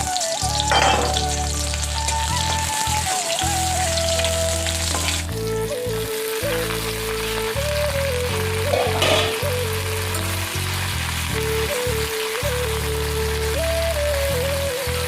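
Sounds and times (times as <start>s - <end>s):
background music with bass: 0.0s - 15.0s
food sizzling in oil: 0.0s - 15.0s.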